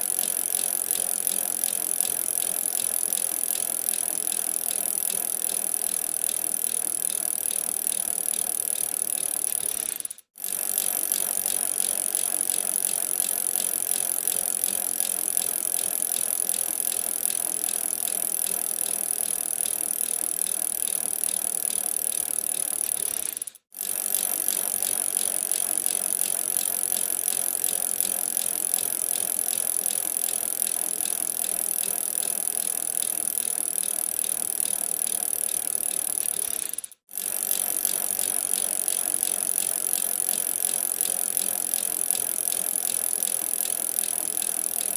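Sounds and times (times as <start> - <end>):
bicycle rattling and ticking: 0.0 - 44.9.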